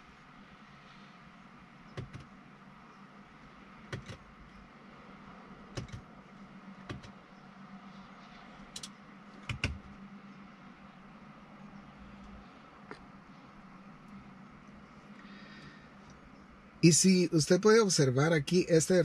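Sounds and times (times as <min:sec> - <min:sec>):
low steady hum in car cabin: 0:00.0 - 0:19.0.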